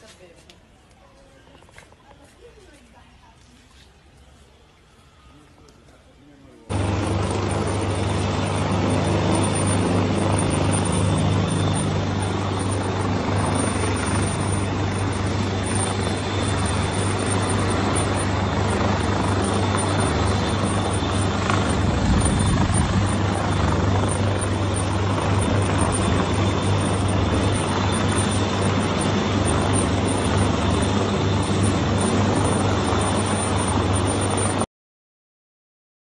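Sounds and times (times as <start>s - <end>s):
turbine whine: 5.1s - 34.7s
helicopter rotor and engine: 5.3s - 34.7s.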